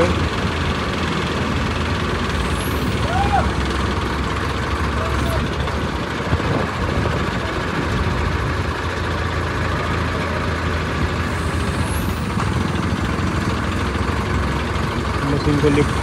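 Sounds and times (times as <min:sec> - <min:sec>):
crane diesel engines running: 0:00.0 - 0:16.0.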